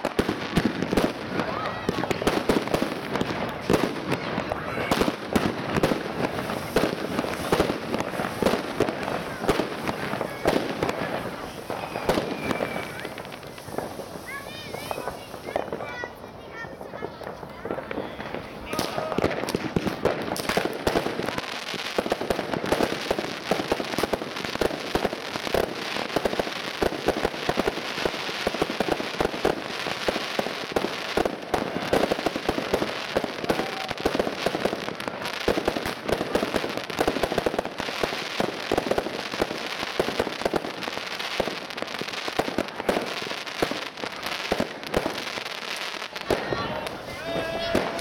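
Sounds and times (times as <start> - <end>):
fireworks bangs pops and crackling: 0.0 - 48.0.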